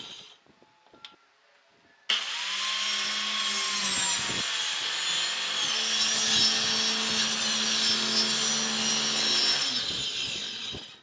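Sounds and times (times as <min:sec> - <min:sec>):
circular saw cutting wood: 0:02.1 - 0:11.0.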